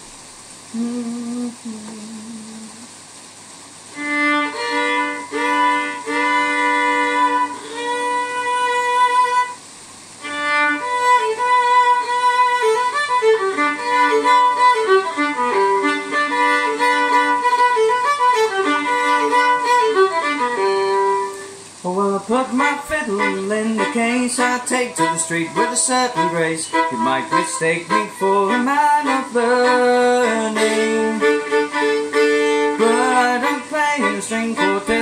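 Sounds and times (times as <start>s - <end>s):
solo bowed fiddle: 3.9s - 9.6s, 10.2s - 35.0s.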